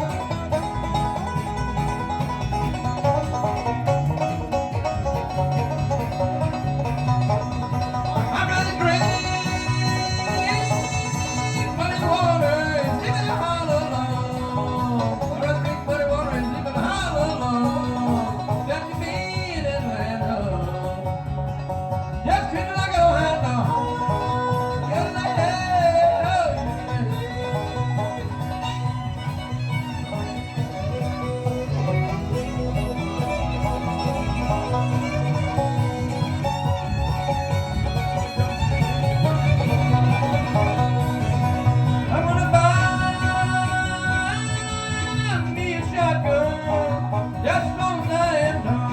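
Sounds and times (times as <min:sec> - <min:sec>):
banjo picking: 0:00.0 - 0:48.9
bluegrass band playing: 0:00.0 - 0:48.9.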